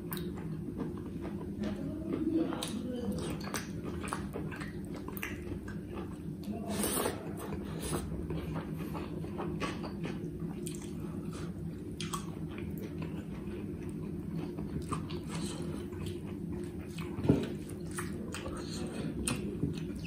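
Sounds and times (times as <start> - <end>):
man chewing and mouth smacking: 0.0 - 20.0
steady low hum: 0.0 - 20.0.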